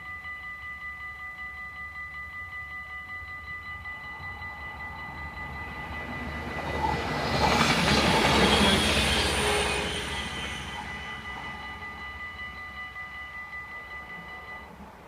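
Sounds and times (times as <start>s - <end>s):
level crossing warning bells: 0.0s - 15.0s
diesel train passing: 1.4s - 15.0s.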